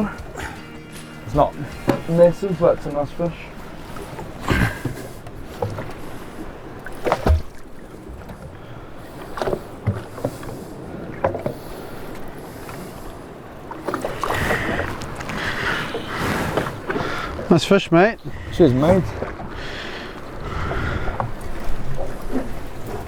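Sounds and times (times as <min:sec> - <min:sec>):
water sloshing against hull: 0:00.0 - 0:23.0.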